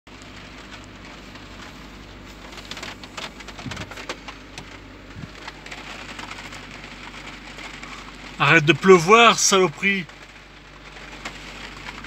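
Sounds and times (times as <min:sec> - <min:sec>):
car engine hum: 0:00.1 - 0:12.0
heavy rain on car roof: 0:00.1 - 0:12.0.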